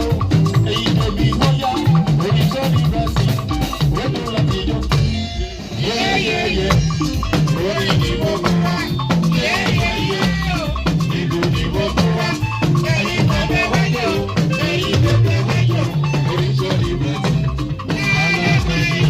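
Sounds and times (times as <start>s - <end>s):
fast even percussion: 0.0s - 19.0s
live band music: 0.0s - 19.0s
steady drum beat: 0.0s - 19.0s.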